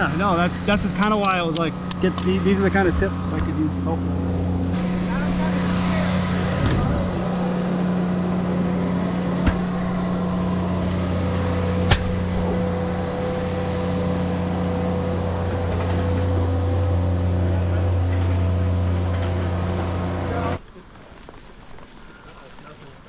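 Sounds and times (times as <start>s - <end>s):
engine humming: 0.0s - 22.8s.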